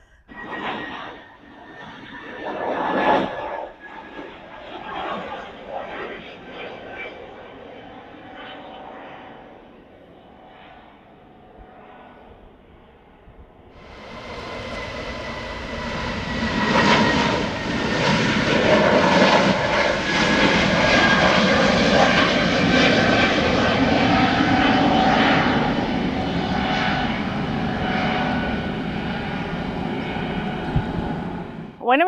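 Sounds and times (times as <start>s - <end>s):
jet airliner taking off: 0.0s - 32.0s.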